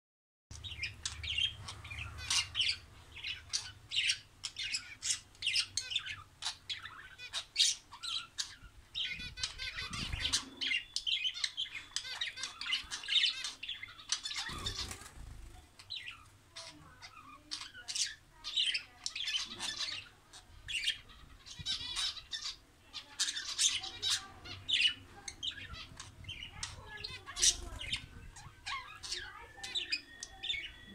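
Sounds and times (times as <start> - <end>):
budgerigars chattering: 0.5 - 30.9.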